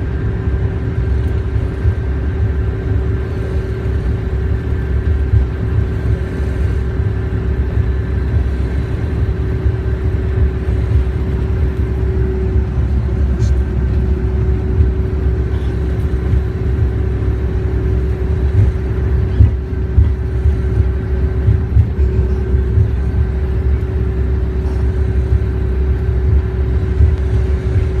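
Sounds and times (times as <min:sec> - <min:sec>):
bus engine and road rumble: 0:00.0 - 0:28.0
constant hum: 0:00.0 - 0:28.0.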